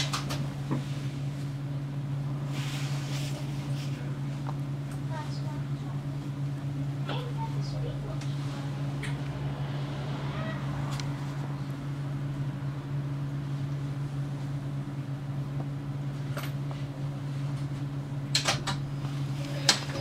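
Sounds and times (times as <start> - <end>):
tram equipment humming: 0.0 - 20.0.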